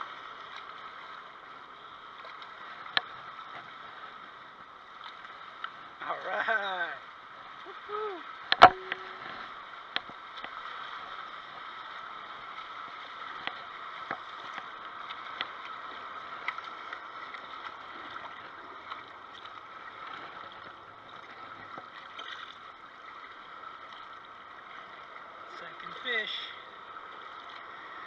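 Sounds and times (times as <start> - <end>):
river water lapping on bank: 0.0 - 28.0.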